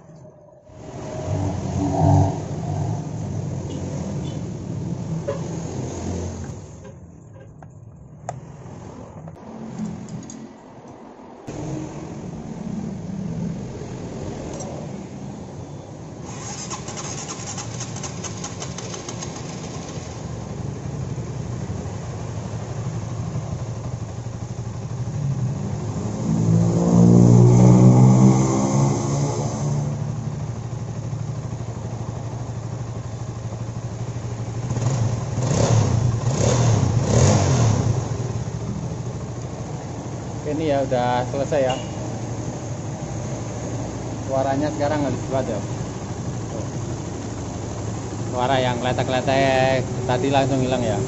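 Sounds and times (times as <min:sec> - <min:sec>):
motorcycle engine revving: 0:00.7 - 0:06.9, 0:16.2 - 0:51.0.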